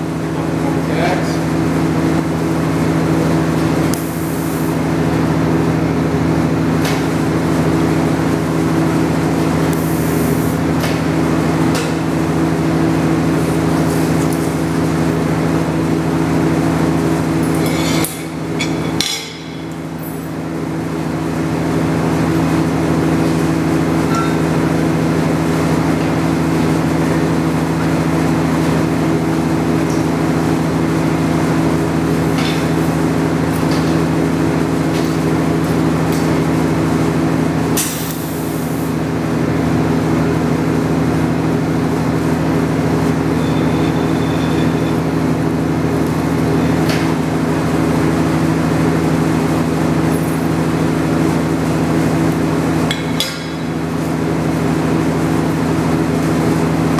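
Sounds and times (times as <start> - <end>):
welding machine humming: 0.0 - 56.9.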